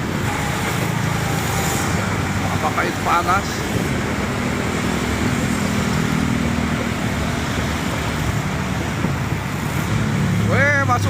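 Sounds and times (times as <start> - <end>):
low engine hum: 0.0 - 11.0
road traffic noise: 0.0 - 11.0.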